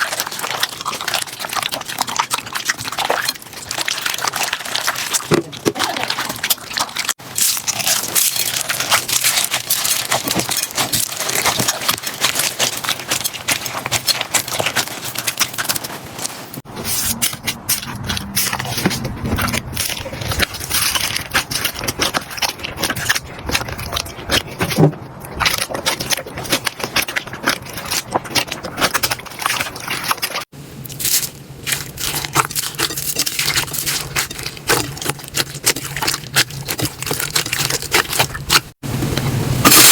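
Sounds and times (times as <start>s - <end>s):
slime crackling and popping: 0.0s - 38.8s.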